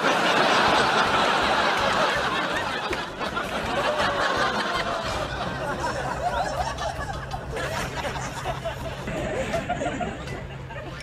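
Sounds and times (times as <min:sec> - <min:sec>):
people laughing and snickering: 0:00.0 - 0:11.0.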